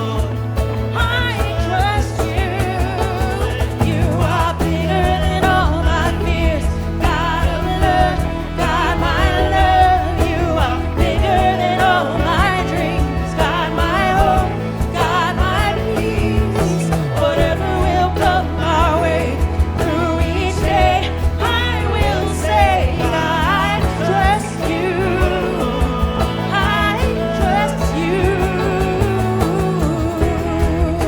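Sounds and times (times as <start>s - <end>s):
live band with steady beat: 0.0s - 31.0s
worship singing: 0.0s - 31.0s.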